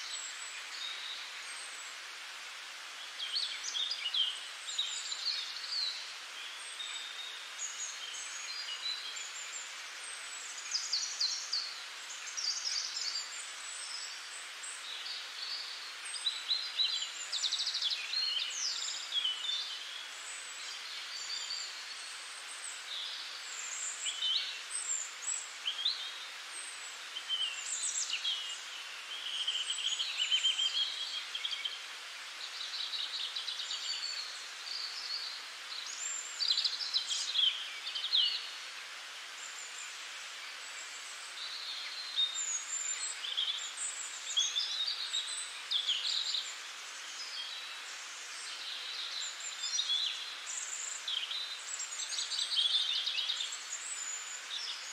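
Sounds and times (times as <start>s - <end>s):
steady background hiss: 0.0s - 54.9s
small birds chirping and singing: 3.0s - 38.7s, 39.3s - 54.9s.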